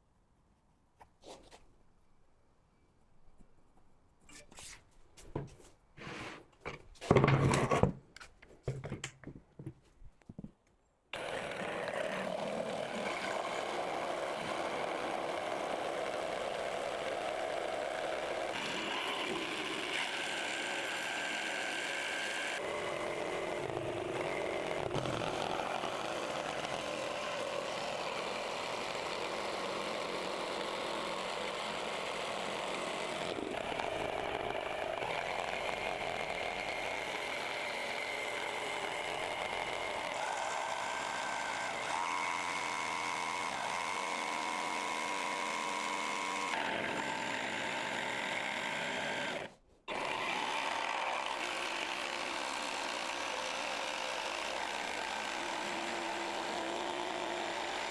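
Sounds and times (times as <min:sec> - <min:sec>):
electric power tool running: 0:11.2 - 0:57.9.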